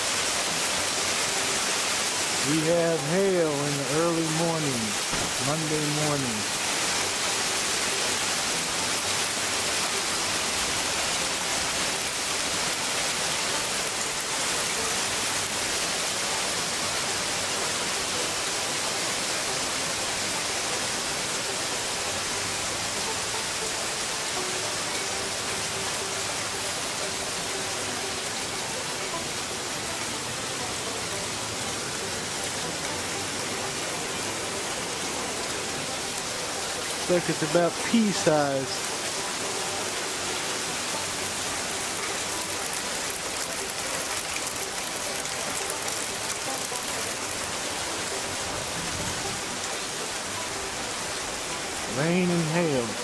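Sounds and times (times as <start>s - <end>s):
rain and hail falling: 0.0s - 53.0s.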